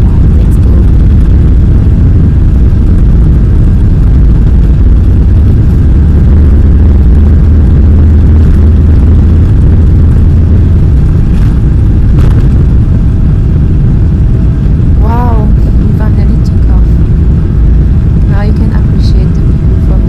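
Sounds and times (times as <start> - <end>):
jet engines rumbling at takeoff: 0.0 - 20.0.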